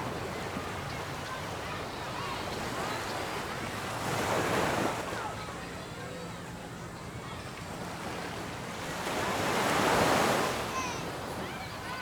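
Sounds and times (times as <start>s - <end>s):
ocean surf washing: 0.0s - 6.3s, 7.2s - 12.0s
faint voices: 0.0s - 12.0s.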